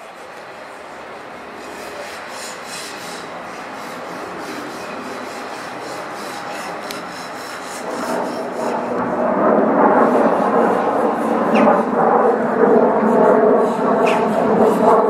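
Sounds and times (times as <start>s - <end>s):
aircraft engines rushing: 0.0s - 15.0s.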